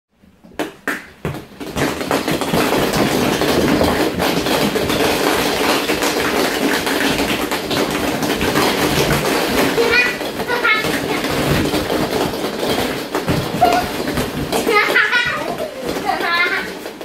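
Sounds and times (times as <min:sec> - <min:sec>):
plastic balls clattering: 0:00.4 - 0:17.0.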